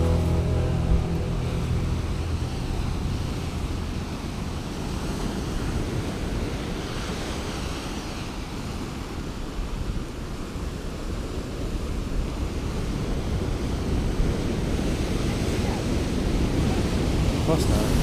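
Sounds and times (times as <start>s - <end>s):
ocean surf breaking on rocks: 0.0s - 18.0s.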